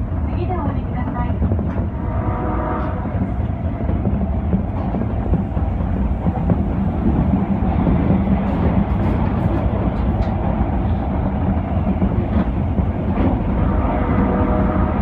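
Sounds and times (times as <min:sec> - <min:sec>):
subway wheels rumbling on rail: 0:00.0 - 0:15.0.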